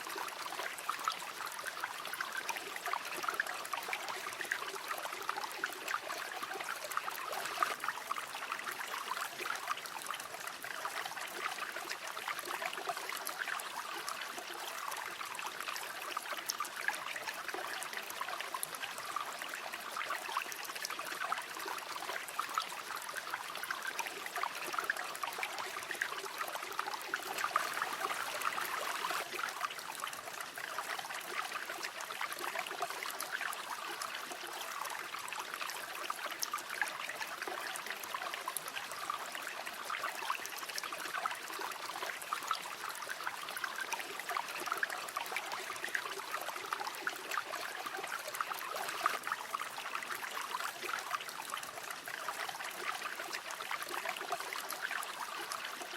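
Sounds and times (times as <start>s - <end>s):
river water babbling over stones: 0.0s - 55.9s.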